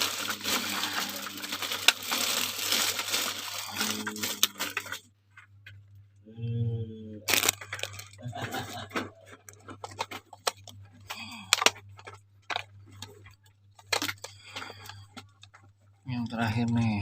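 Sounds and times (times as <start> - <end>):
packaging crackling and crinkling: 0.0 - 5.5, 7.3 - 15.9
low steady hum: 0.0 - 17.0.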